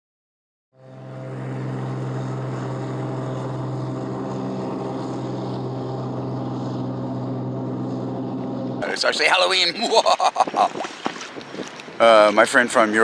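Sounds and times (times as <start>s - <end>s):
propeller engine droning: 0.8s - 13.0s.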